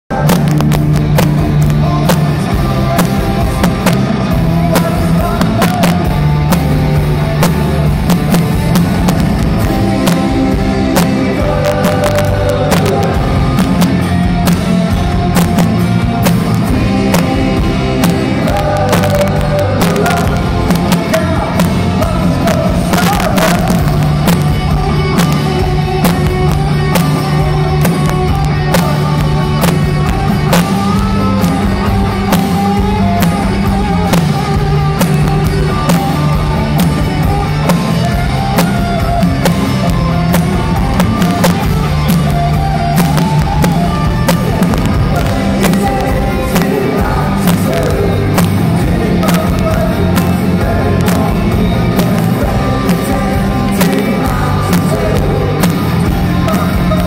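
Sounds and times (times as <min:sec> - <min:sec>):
drums hitting: 0:00.1 - 0:57.0
rock band playing live: 0:00.1 - 0:57.0
sustained bass line: 0:00.1 - 0:57.0.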